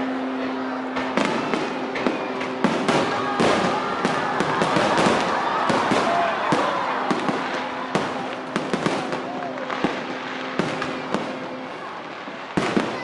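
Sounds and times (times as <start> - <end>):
fireworks bangs and crackles: 0.1 - 13.0.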